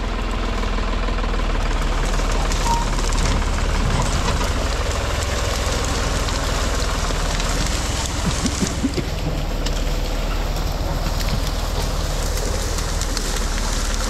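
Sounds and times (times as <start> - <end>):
engine running at low speed: 0.0 - 14.0
light crackles: 1.9 - 14.0.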